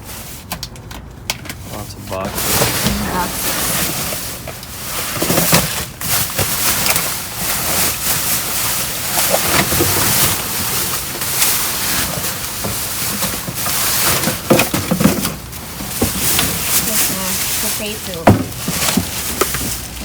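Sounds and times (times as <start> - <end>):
rubbish being handled: 0.0 - 20.0.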